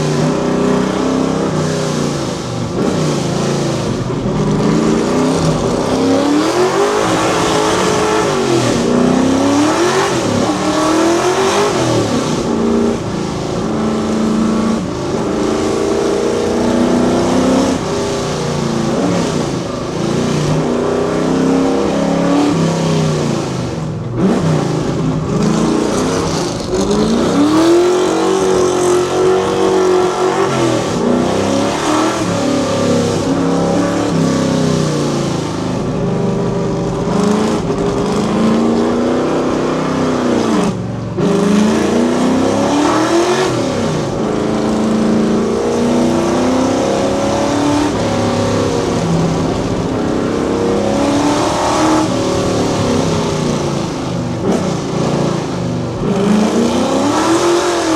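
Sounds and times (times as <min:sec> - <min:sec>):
car engine accelerating hard: 0:00.0 - 0:57.9.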